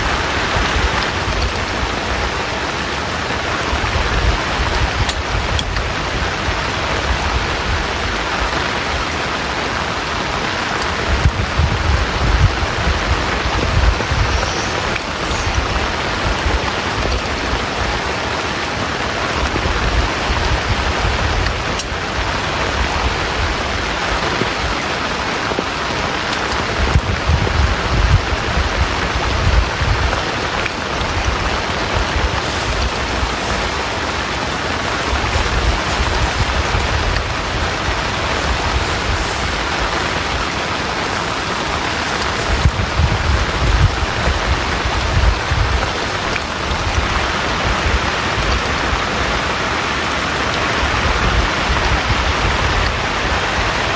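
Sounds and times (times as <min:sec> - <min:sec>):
heavy rain pouring: 0:00.0 - 0:53.9
rumbling wind gusts: 0:00.0 - 0:53.9.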